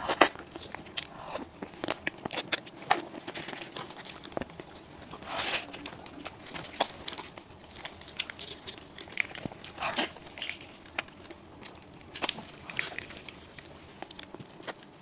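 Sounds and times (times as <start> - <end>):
pastry crust crunching: 0.0 - 15.0.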